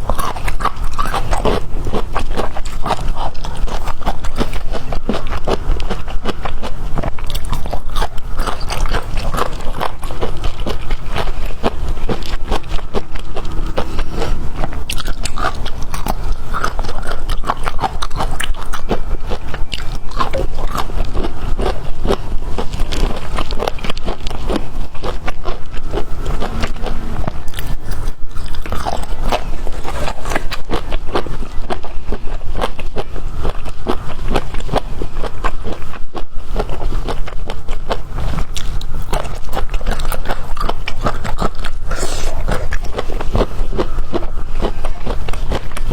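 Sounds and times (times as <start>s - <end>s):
chewing crunchy bamboo shoots: 0.0s - 45.9s.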